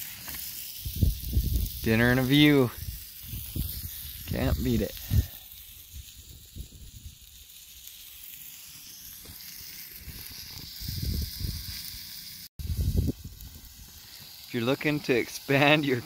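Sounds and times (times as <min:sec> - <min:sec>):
meat sizzling on hot rock: 0:00.0 - 0:16.0.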